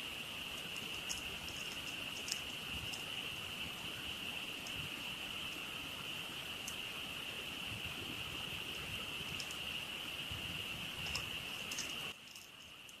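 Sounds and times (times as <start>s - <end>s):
campfire crackling: 0.0s - 13.0s
frogs calling: 0.0s - 13.0s.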